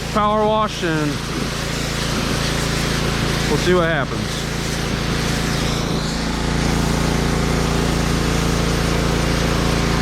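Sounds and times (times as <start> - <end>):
pressure washer engine hum: 0.0 - 10.0
water spray hissing: 0.0 - 10.0.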